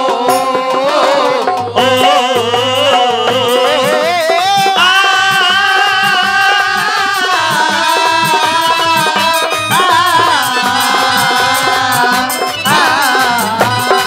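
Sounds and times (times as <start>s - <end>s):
fast drum beat: 0.0s - 14.0s
jingling percussion: 0.0s - 14.0s
sliding melody line: 0.0s - 14.0s.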